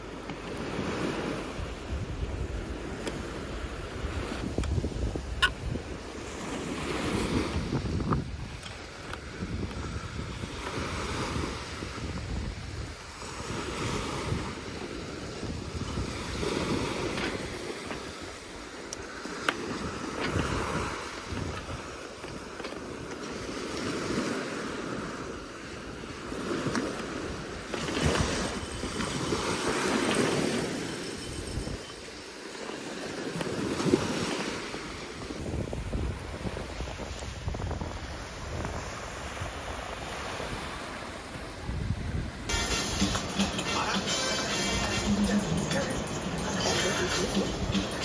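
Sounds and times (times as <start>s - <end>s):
wind buffeting microphone: 0.0s - 42.6s
surf washing onto beach: 0.0s - 48.0s.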